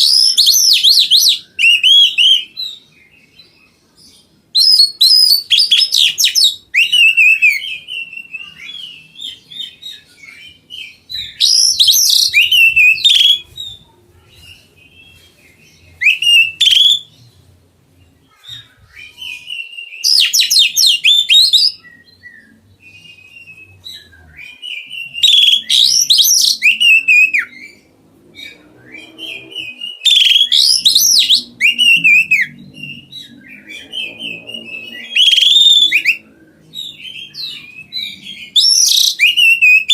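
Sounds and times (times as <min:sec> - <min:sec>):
magpie-robin singing: 0:00.0 - 0:17.4, 0:18.0 - 0:39.9.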